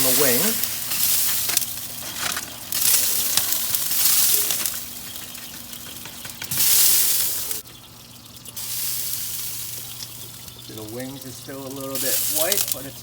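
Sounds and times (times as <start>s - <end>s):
aluminium foil crinkling: 0.0s - 7.6s, 8.4s - 13.0s
fat sizzling in a roasting pan: 0.0s - 13.0s.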